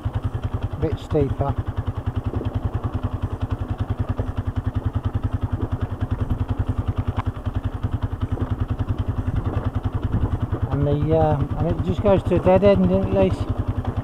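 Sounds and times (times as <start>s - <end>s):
quad bike engine puttering: 0.0s - 14.0s.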